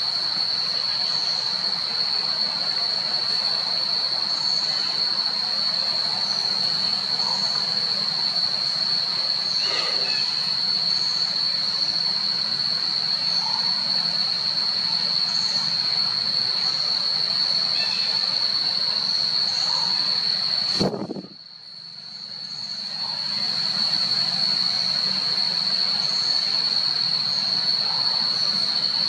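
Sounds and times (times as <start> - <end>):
high-pitched insect drone: 0.0 - 29.0
outdoor hiss: 0.0 - 29.0.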